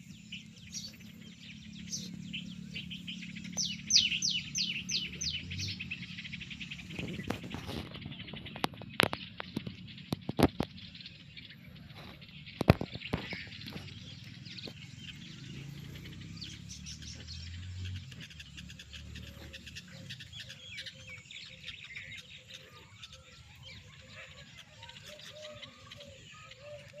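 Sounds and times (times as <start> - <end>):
bird warbling calls: 0.0 - 27.0
birds chirping: 0.0 - 27.0.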